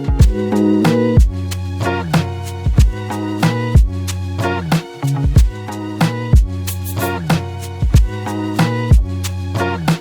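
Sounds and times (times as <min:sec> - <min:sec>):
afrobeat dance music: 0:00.0 - 0:10.0.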